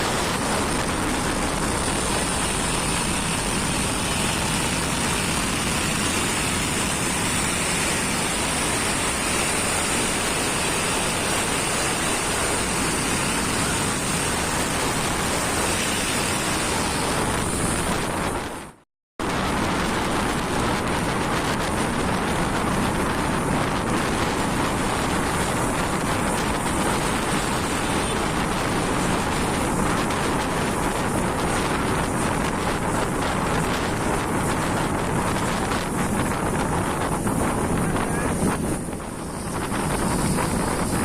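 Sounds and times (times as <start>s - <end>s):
road and engine noise: 0.0s - 41.0s
wind rushing over microphone: 0.0s - 41.0s.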